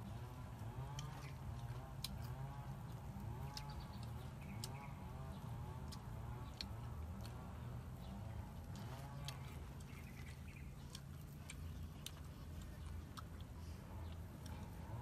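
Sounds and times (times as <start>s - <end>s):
crunching while chewing: 0.0s - 15.0s.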